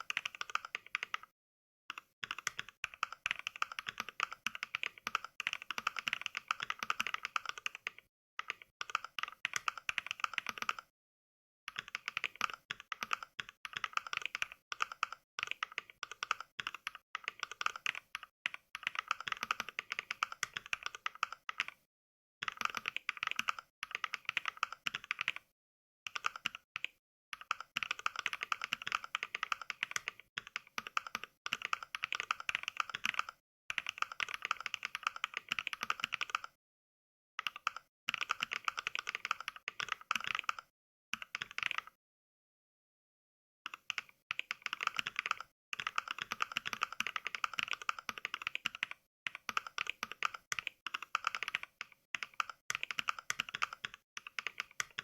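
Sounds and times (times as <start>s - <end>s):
simulated keyboard typing clicks: 0.0s - 1.3s, 1.9s - 10.9s, 11.7s - 25.5s, 26.1s - 36.6s, 37.4s - 42.0s, 43.7s - 55.0s.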